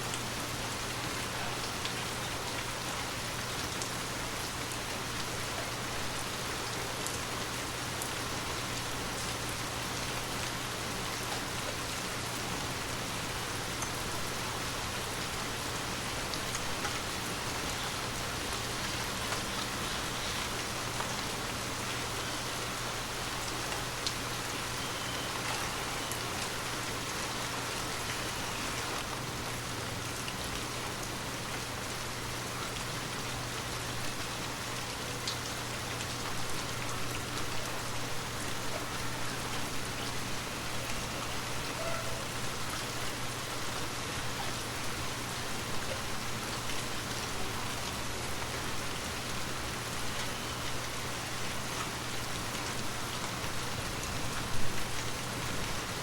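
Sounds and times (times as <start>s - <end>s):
gentle steady rain: 0.0s - 56.0s.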